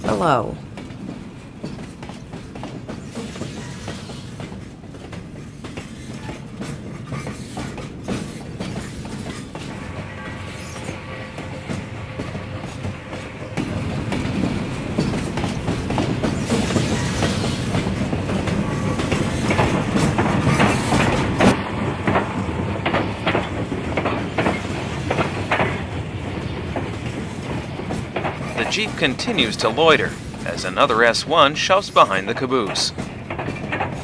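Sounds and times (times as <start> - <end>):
moving train rumble: 0.0 - 34.0.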